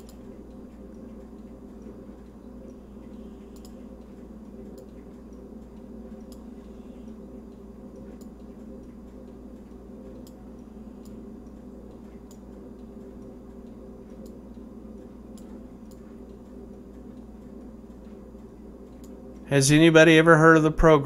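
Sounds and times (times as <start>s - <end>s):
computer mouse clicking: 0.0s - 19.4s
low electrical hum: 0.0s - 21.0s.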